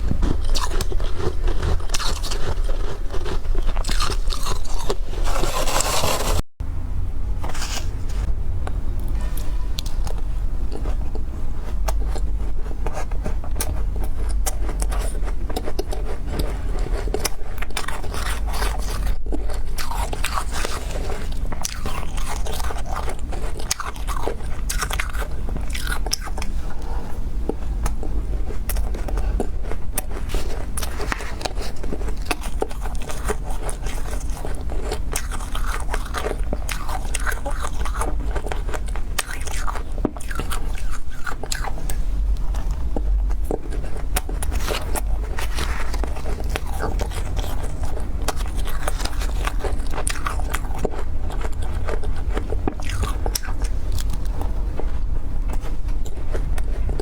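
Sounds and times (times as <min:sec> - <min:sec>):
crunching and chewing ice: 0:00.0 - 0:06.4, 0:09.0 - 0:57.0
steady low hum: 0:00.0 - 0:57.0.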